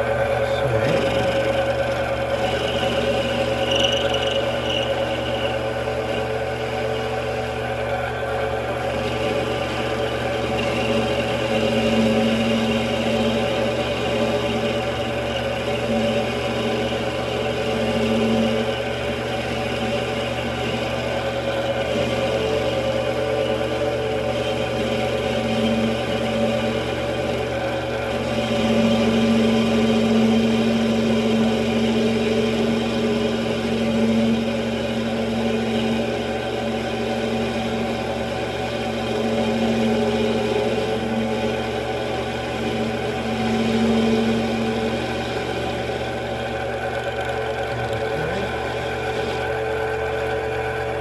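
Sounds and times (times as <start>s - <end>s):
metal lathe motor humming: 0.0s - 51.0s.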